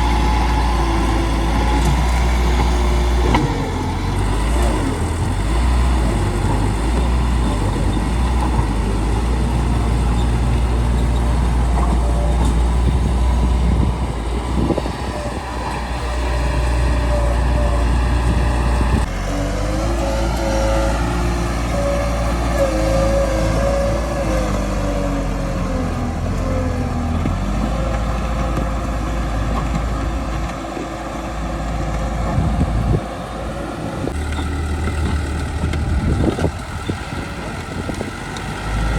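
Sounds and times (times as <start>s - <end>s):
bulldozer diesel engine: 0.0s - 38.9s.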